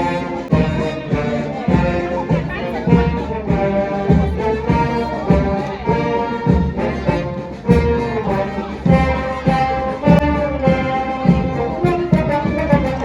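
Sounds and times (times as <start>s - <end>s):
brass band playing: 0.0s - 13.0s
steady drum beat: 0.0s - 13.0s.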